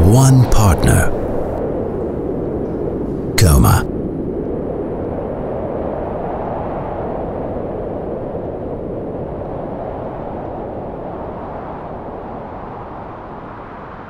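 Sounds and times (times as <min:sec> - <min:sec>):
wind-like rushing noise: 0:00.0 - 0:14.0.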